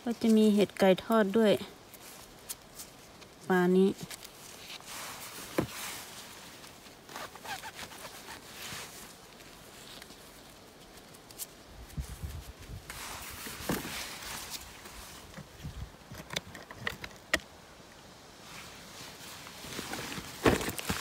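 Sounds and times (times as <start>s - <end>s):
footsteps through undergrowth: 0.0s - 16.1s, 18.4s - 21.0s.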